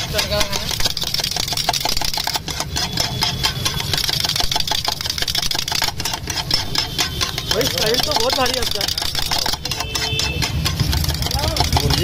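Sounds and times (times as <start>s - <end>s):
metal spatula clattering on griddle: 0.0s - 12.0s.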